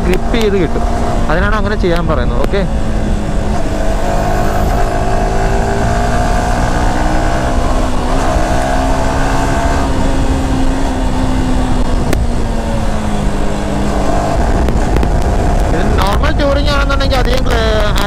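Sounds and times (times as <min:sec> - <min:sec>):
motorcycle engine at speed: 0:00.0 - 0:18.0
wind and road noise: 0:00.0 - 0:18.0.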